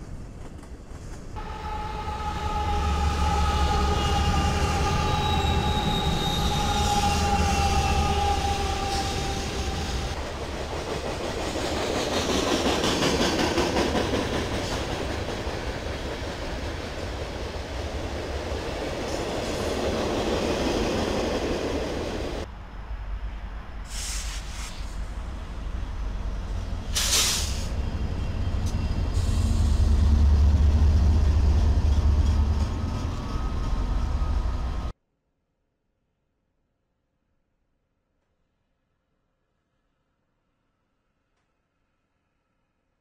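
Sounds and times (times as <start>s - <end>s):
diesel locomotive rumble and whine: 0.0s - 35.0s.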